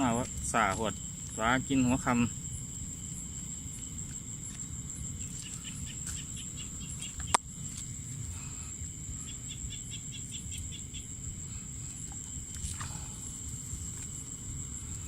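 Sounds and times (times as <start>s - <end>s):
crickets trilling: 0.0s - 15.0s
quick insect chirping: 0.0s - 15.0s.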